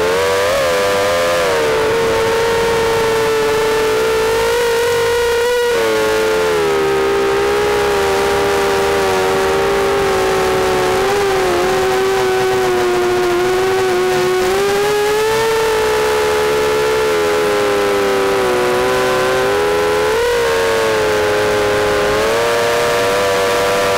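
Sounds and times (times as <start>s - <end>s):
quadcopter propellers whining: 0.0s - 23.9s.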